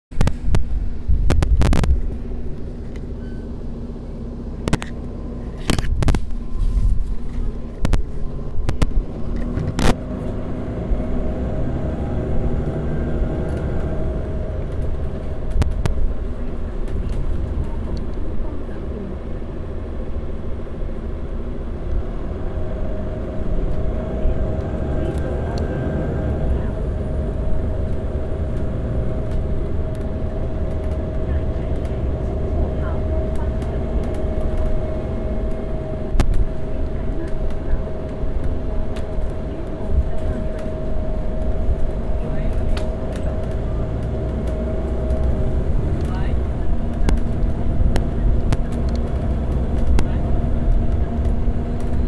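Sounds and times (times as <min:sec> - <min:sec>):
diesel bus engine rumbling: 0:00.0 - 0:52.0.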